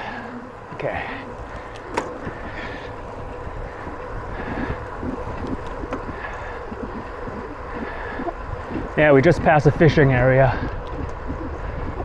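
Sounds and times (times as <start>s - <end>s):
bicycle rolling on road: 0.0s - 12.0s
wind buffeting microphone: 0.4s - 12.0s.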